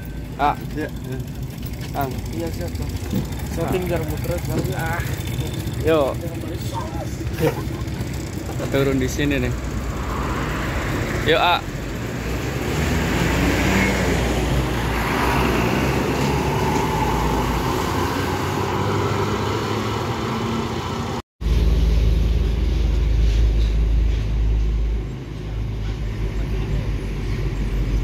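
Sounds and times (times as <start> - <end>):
bus engine running: 0.0 - 28.0
road noise: 0.0 - 28.0.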